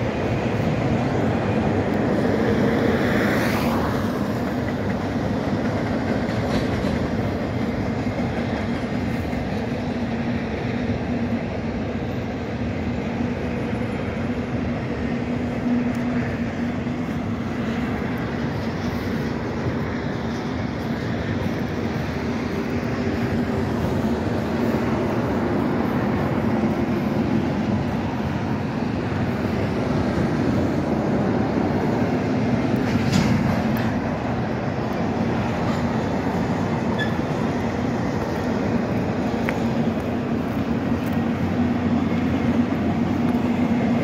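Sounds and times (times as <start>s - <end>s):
train wheels rolling on rails: 0.0s - 44.0s.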